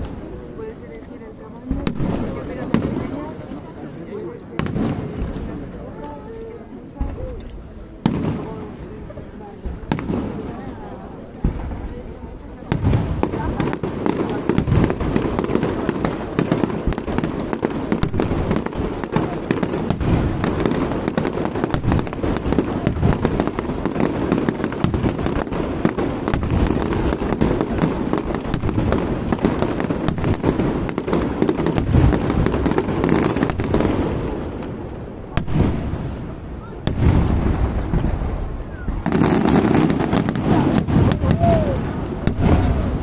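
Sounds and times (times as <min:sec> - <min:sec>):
firework crackle: 0:00.0 - 0:43.0.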